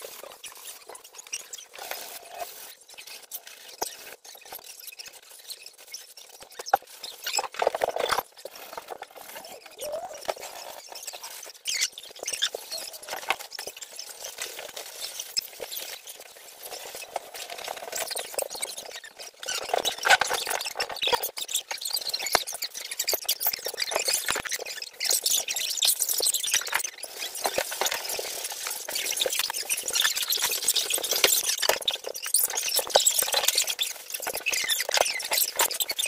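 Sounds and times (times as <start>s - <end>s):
short squeaks and clicks: 0.2s - 16.2s, 17.7s - 36.0s.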